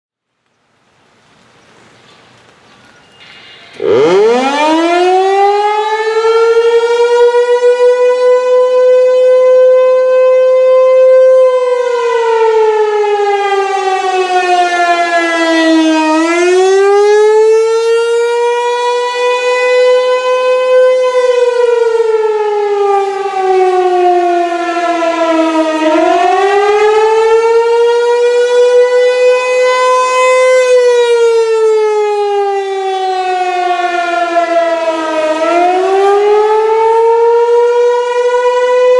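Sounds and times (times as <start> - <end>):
fire siren wailing: 3.0 - 38.9.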